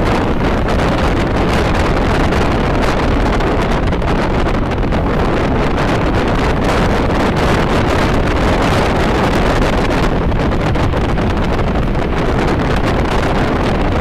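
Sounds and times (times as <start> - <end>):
car road and wind noise: 0.0 - 14.0
wind buffeting microphone: 0.0 - 14.0.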